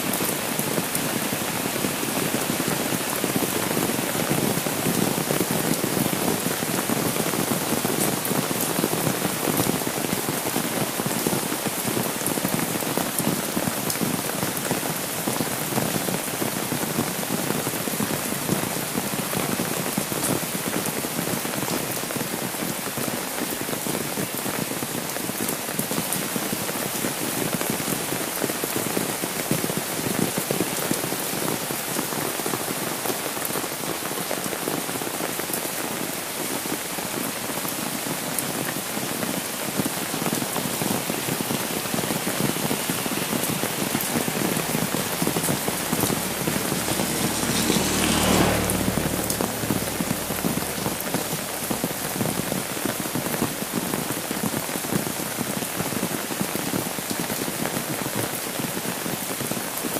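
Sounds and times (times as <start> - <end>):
rain pattering on umbrella: 0.0 - 59.9.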